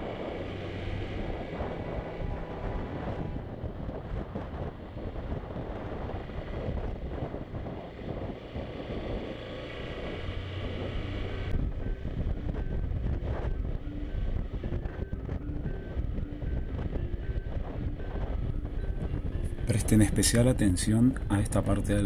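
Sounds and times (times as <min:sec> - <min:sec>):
motorcycle engine running: 0:00.0 - 0:19.6
wind buffeting microphone: 0:00.0 - 0:22.0.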